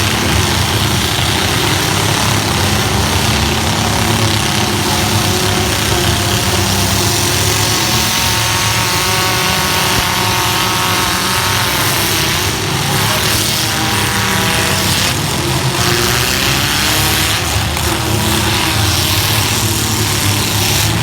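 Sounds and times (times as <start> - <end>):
truck engines running hard: 0.0 - 21.0.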